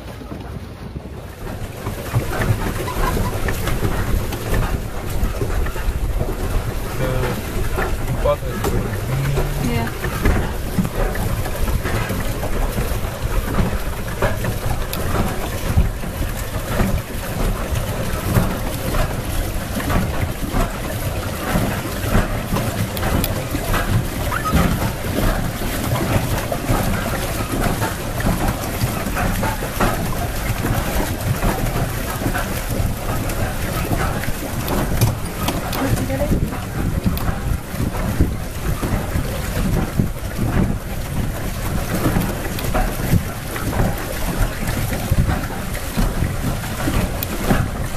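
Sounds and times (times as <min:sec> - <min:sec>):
water splashing against hull: 0:00.0 - 0:47.9
wind buffeting microphone: 0:00.0 - 0:47.9.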